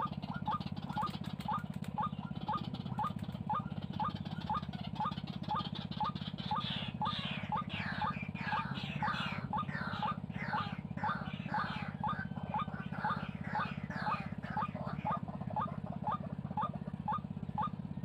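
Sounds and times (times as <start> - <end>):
harsh falling bird calls: 0.0 - 18.0
steady low hum: 0.0 - 18.0.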